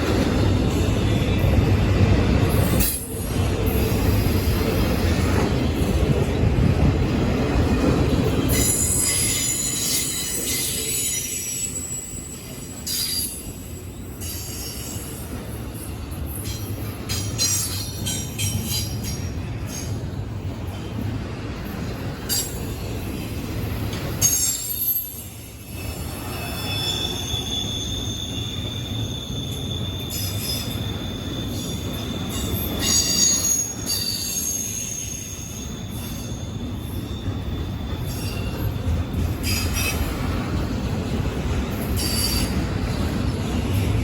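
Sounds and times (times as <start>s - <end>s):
train rolling past: 0.0s - 44.0s
train wheels squealing on rails: 0.0s - 44.0s.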